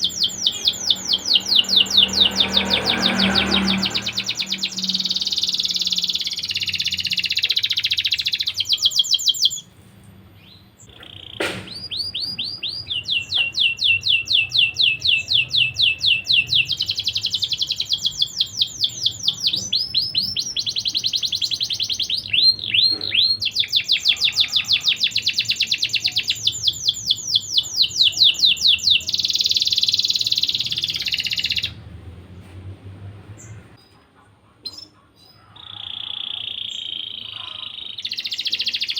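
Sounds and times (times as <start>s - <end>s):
canary singing in trills: 0.0s - 9.7s, 10.3s - 32.0s, 33.2s - 38.9s.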